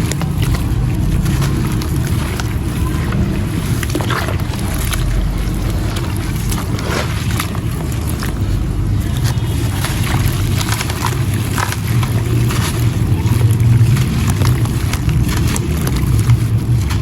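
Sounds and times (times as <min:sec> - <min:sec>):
chunks crumbling in water: 0:00.0 - 0:17.0
steady low rumble: 0:00.0 - 0:17.0.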